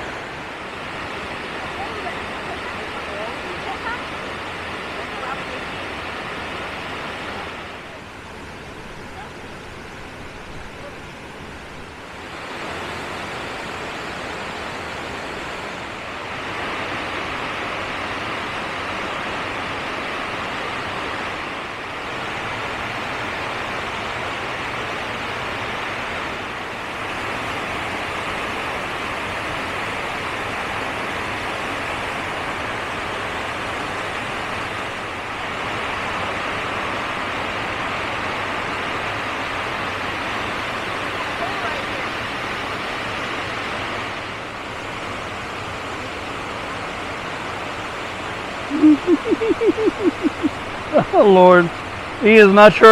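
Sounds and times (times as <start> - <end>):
rushing water: 0.0 - 52.9.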